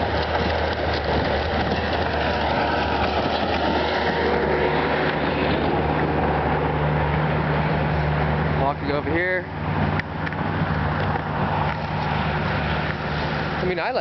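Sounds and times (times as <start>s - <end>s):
broad rushing noise: 0.0s - 14.0s
vehicle engine humming: 0.0s - 14.0s.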